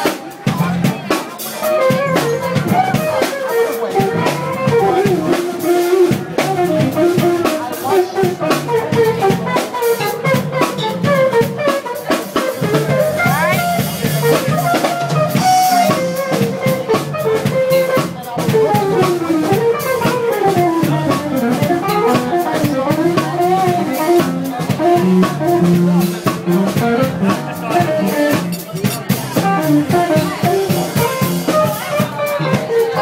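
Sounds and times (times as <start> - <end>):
band playing: 0.0 - 33.0
drum kit beat: 0.0 - 33.0
guitar: 0.0 - 33.0.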